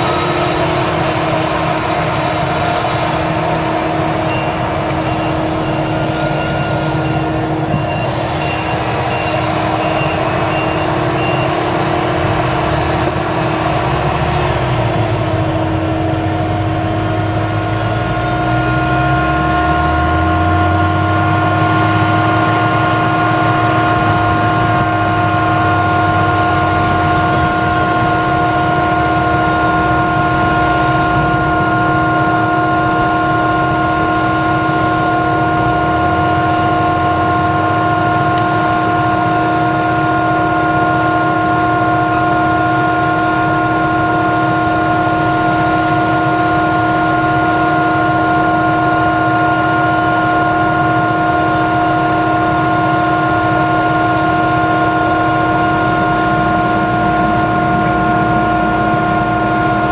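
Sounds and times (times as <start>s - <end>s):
harvester engine rumbling: 0.0s - 59.9s
high machine whine: 0.0s - 59.9s
tractor engine: 0.0s - 59.9s.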